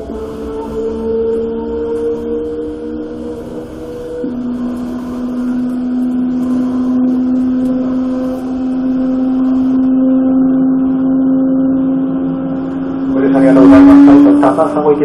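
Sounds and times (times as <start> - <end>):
electric train motor whine: 0.0 - 15.0
wheels rumbling on rail: 0.0 - 15.0.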